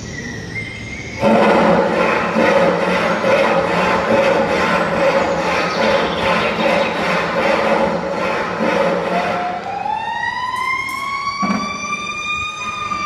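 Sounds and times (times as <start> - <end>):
noisy rumble: 0.0 - 10.5
siren wailing: 1.1 - 13.0.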